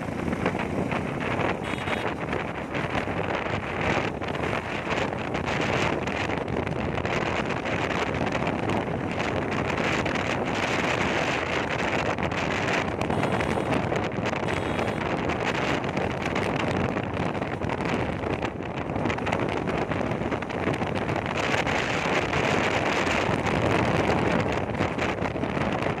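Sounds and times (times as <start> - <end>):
vehicle and road noise: 0.0 - 26.0
wind buffeting microphone: 0.0 - 26.0.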